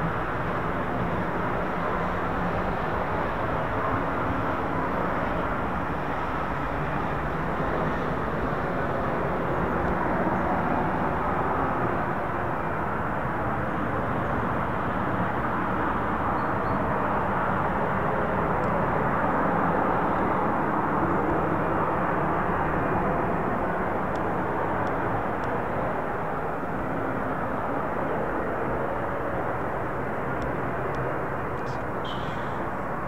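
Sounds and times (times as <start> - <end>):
jet engine noise: 0.0 - 33.0.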